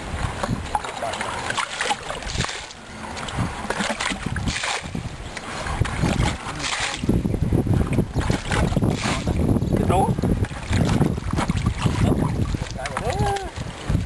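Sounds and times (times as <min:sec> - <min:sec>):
muddy water sloshing and splashing: 0:00.0 - 0:14.0
wind buffeting microphone: 0:00.0 - 0:14.0.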